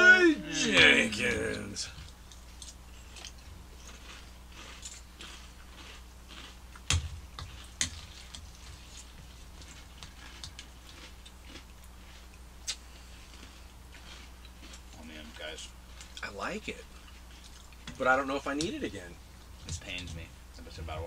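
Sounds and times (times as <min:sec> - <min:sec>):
cereal chewing and crunching: 0:01.1 - 0:20.3.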